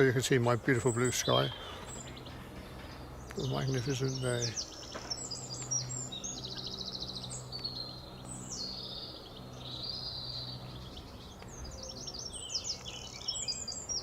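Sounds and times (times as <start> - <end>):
songbirds singing: 0.0 - 14.0
steady low hum: 0.0 - 14.0.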